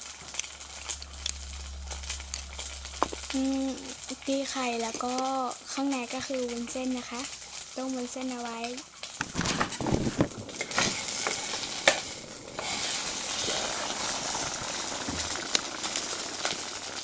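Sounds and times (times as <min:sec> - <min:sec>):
boiling water hiss: 0:00.0 - 0:17.0.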